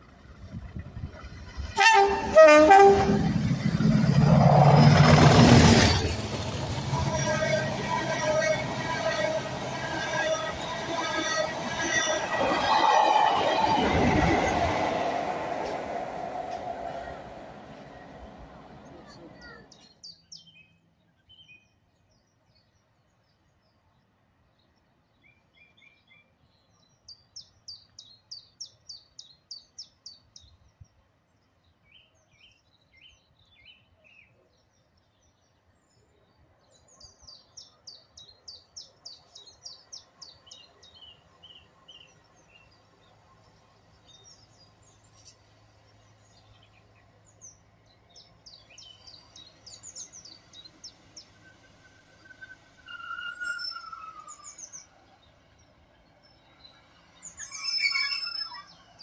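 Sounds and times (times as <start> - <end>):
songbirds chirping: 6.6 - 59.0.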